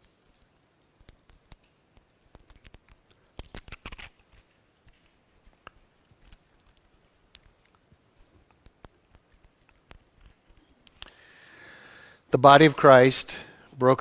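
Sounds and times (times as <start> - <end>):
plastic and foil crinkling: 0.0 - 11.2.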